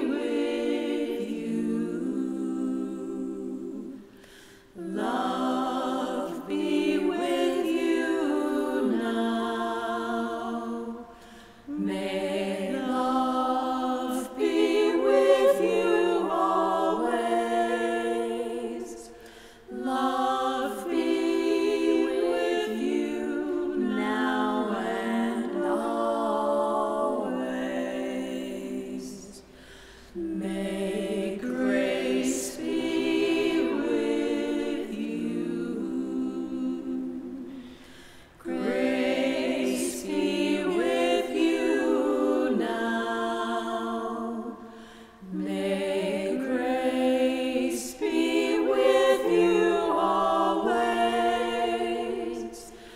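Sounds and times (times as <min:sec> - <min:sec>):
two women singing a cappella: 0:00.0 - 0:52.9.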